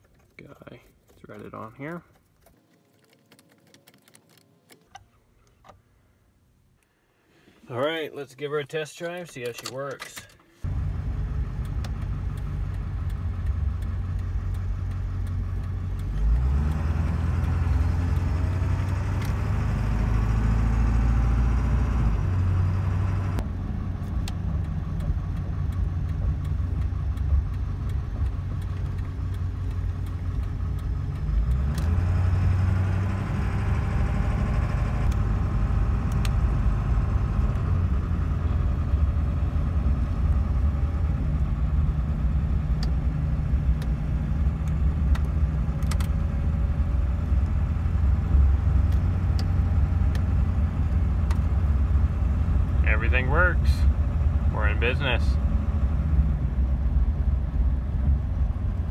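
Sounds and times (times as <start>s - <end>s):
pickup engine and road rumble: 0.0s - 58.9s.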